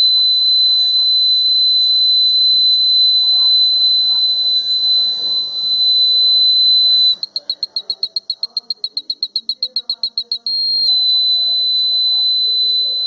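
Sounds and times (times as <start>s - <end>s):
fire alarm buzzer: 0.0s - 13.0s.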